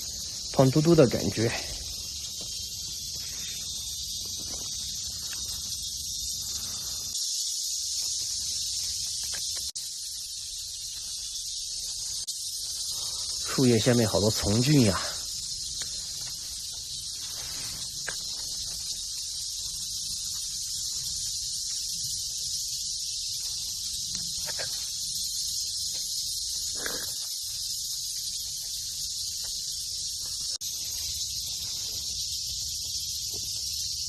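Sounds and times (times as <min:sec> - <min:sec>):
insect chorus drone: 0:00.0 - 0:34.0.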